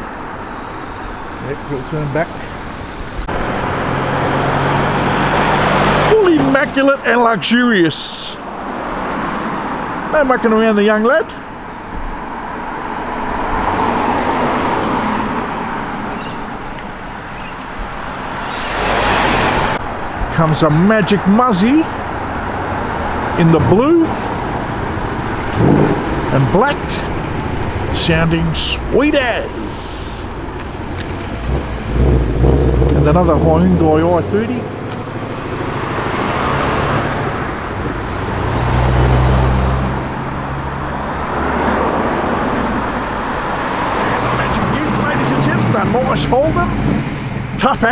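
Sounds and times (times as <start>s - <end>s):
car driving past: 1.6s - 6.8s, 12.2s - 47.6s.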